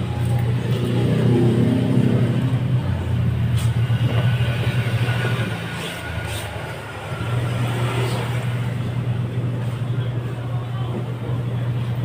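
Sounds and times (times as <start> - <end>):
laundry machine motor hum: 0.0 - 12.0.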